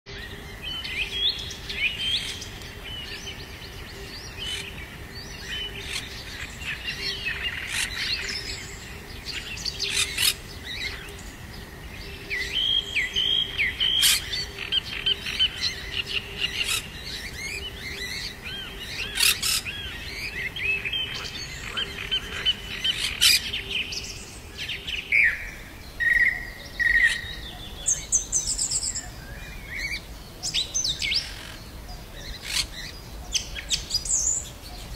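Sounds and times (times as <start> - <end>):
birds chirping and calling: 0.1 - 34.9.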